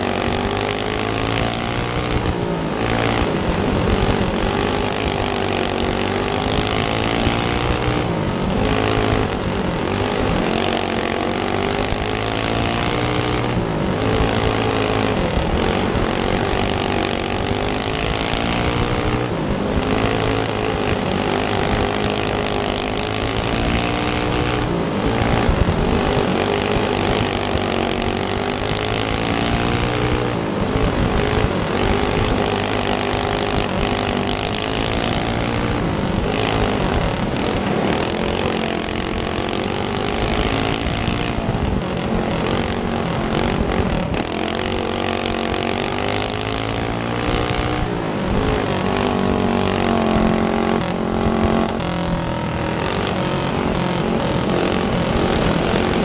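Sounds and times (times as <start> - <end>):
go kart engine racing: 0.0 - 56.0.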